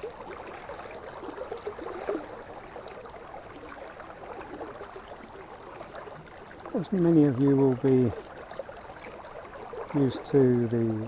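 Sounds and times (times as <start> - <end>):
water gurgling: 0.0 - 11.0.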